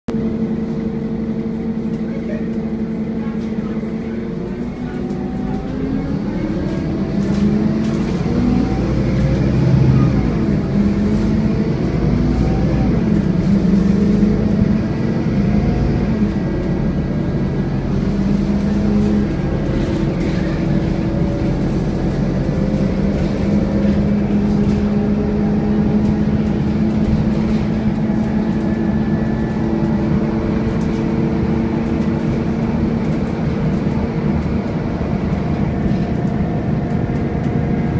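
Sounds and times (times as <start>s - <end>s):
bus engine whining: 0.1s - 37.9s.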